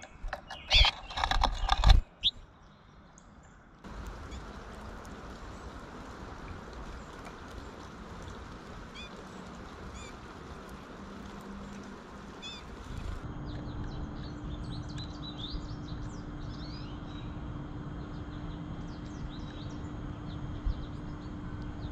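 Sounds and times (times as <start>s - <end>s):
songbirds chirping and twittering: 0.0s - 21.9s.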